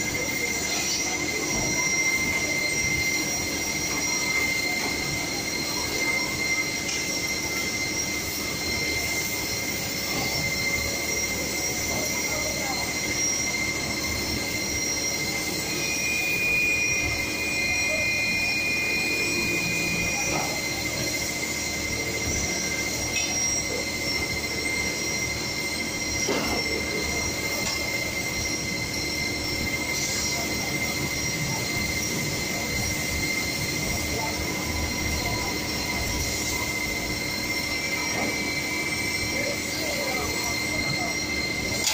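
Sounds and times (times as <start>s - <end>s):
factory machinery drone: 0.0s - 41.9s
high-pitched machine whine: 0.0s - 41.9s.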